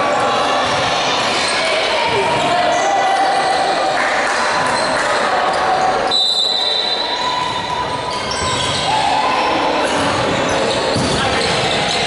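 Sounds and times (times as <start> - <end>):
voices in echoing hall: 0.0 - 12.0.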